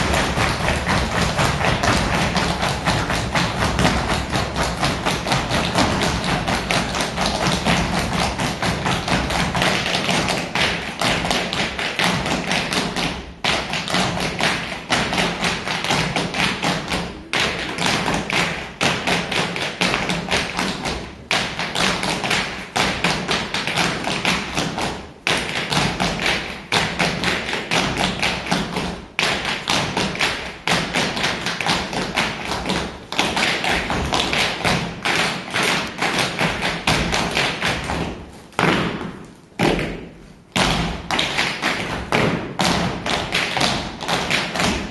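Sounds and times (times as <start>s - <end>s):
percussive music: 0.0s - 44.9s
shoes tapping and stamping on stage: 0.0s - 44.9s.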